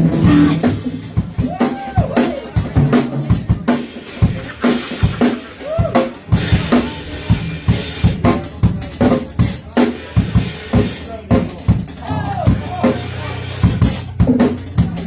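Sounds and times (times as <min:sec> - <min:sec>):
drum kit beat: 0:00.0 - 0:15.0
live band playing: 0:00.0 - 0:15.0.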